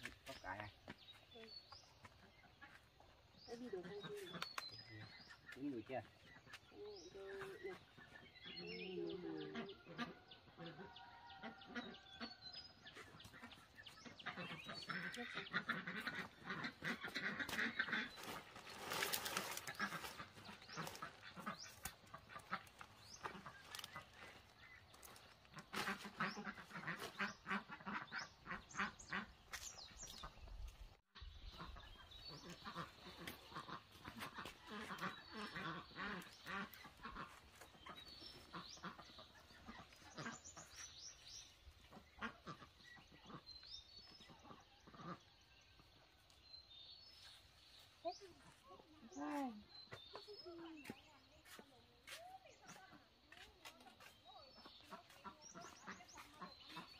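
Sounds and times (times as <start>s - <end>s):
faint farm fowl calls: 0.0s - 30.4s, 31.2s - 46.4s, 47.2s - 56.9s.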